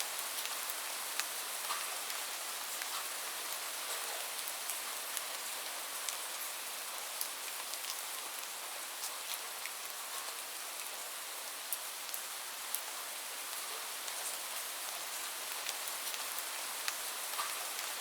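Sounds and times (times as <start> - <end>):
raindrops ticking on a surface: 0.0 - 18.0
steady rain hiss: 0.0 - 18.0.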